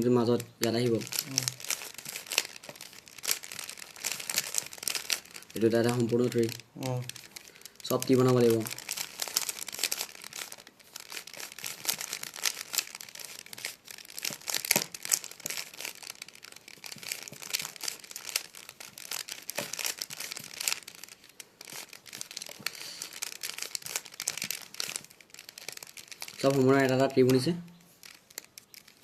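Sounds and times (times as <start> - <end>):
plastic puzzle cube clicking: 0.0 - 29.0.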